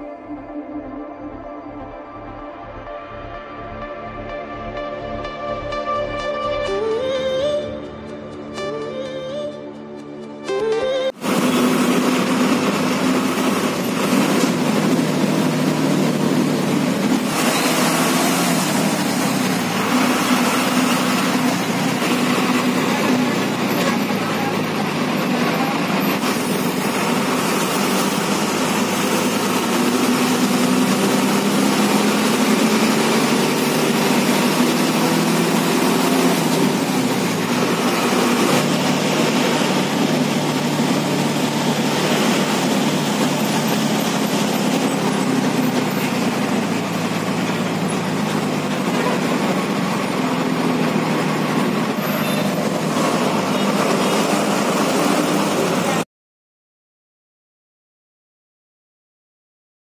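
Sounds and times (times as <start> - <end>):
bus engine running: 0.0 - 56.1
road noise: 2.1 - 56.1.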